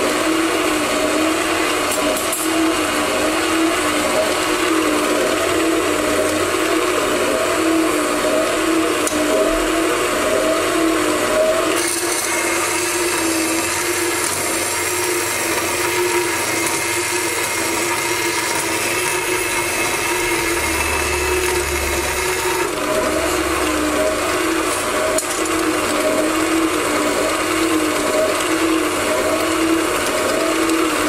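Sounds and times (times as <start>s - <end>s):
band saw cutting steel: 0.0s - 31.0s.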